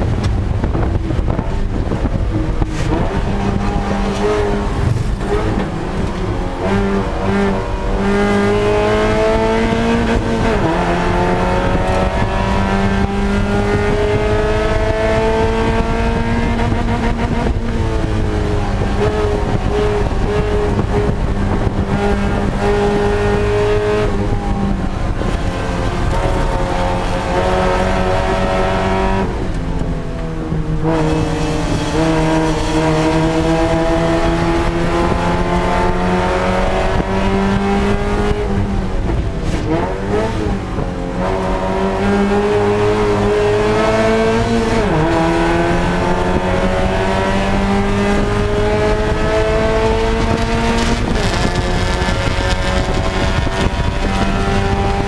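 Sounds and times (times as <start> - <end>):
car engine at racing speed: 0.0 - 55.0.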